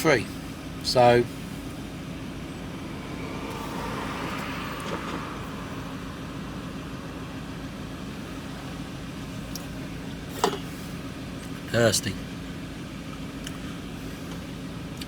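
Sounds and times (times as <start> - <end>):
road noise inside vehicle: 0.0 - 15.0
van engine droning: 0.0 - 15.0.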